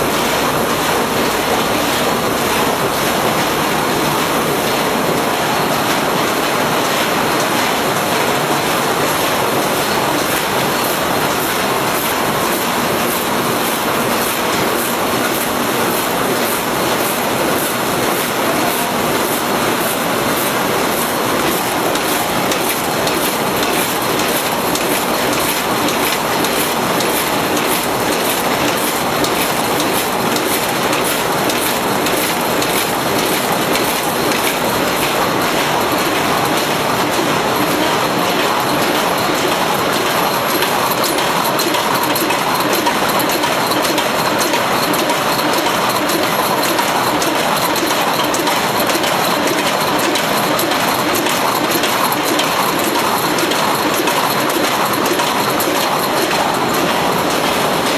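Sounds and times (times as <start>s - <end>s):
printing machine clattering: 0.0s - 57.9s.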